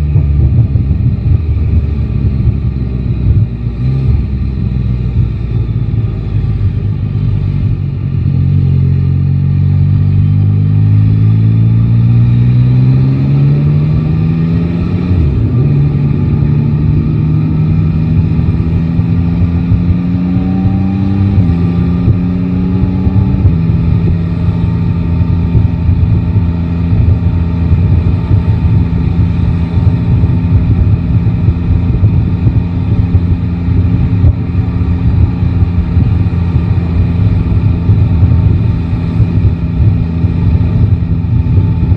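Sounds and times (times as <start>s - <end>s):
motorcycle engine accelerating: 0.0s - 41.9s
wind and road rumble: 0.0s - 41.9s.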